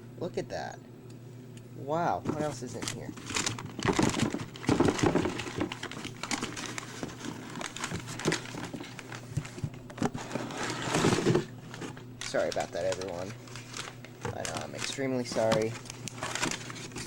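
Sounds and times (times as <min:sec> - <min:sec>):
packing material crinkling: 0:02.2 - 0:17.0.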